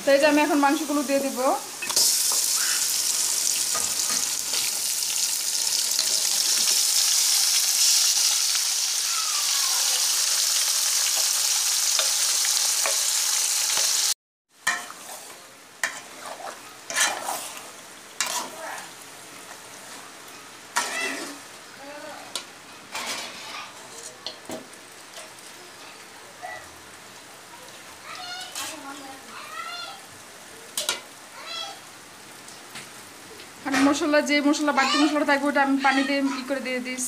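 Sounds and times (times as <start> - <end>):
meat sizzling in hot oil: 0.0 - 22.6, 23.6 - 37.0.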